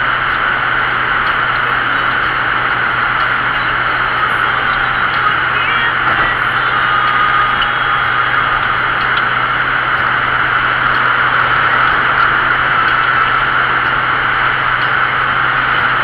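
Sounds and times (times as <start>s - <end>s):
low car hum: 0.0s - 16.0s
tyre and road rush: 0.0s - 16.0s.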